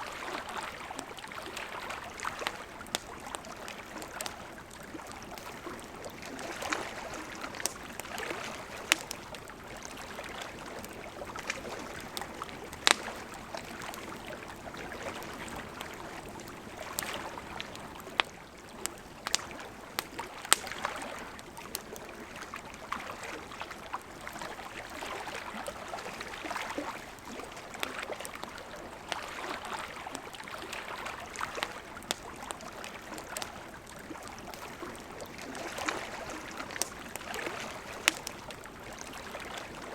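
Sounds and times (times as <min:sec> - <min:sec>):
small waves lapping at shore: 0:00.0 - 0:39.9
campfire crackling: 0:00.2 - 0:39.9.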